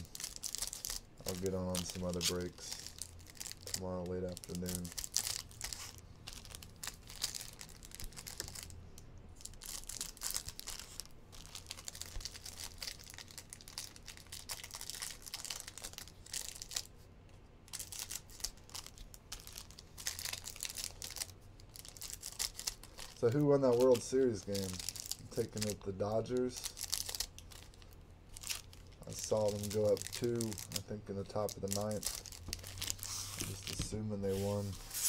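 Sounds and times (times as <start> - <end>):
plastic wrappers crinkling and tearing: 0.0 - 17.0, 17.7 - 35.0.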